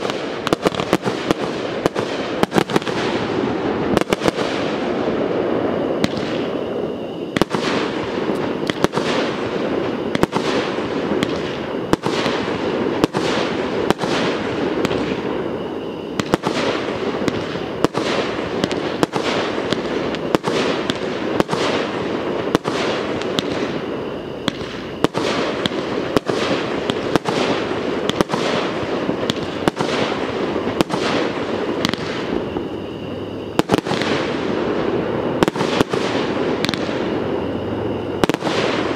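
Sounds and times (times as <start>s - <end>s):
fireworks bangs and pops: 0.0s - 38.9s.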